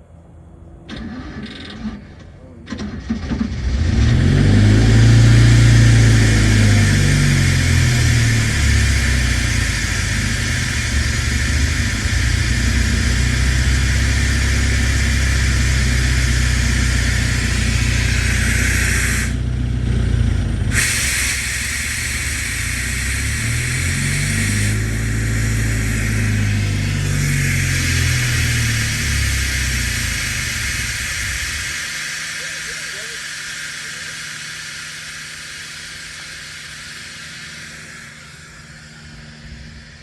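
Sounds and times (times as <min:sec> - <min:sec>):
engine running: 0:00.0 - 0:40.0
loud steady hiss: 0:03.4 - 0:40.0.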